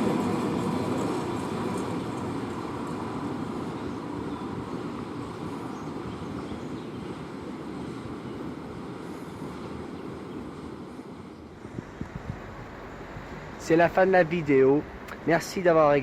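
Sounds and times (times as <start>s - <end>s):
train wagons rolling past: 0.0s - 16.0s.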